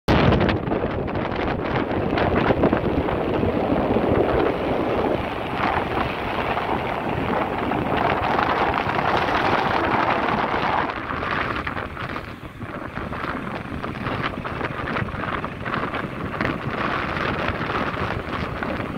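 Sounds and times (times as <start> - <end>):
wind buffeting microphone: 0.1 - 18.9.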